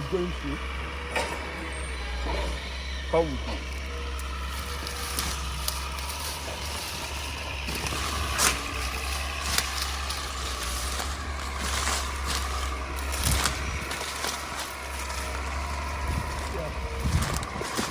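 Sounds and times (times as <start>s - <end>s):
heavy machinery engine drone: 0.0s - 17.9s
whining tone: 0.0s - 17.9s.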